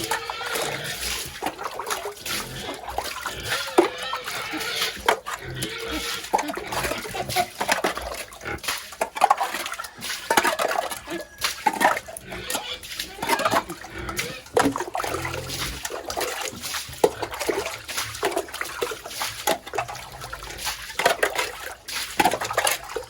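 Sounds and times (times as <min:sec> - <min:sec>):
knocks and clatter in a pen: 0:00.0 - 0:23.0
pigs grunting: 0:00.0 - 0:23.0.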